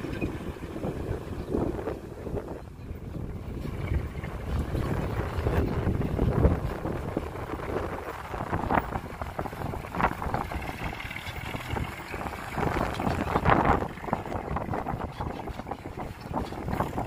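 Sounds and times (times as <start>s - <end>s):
diesel engine running: 0.0s - 17.0s
wind buffeting microphone: 0.0s - 17.0s.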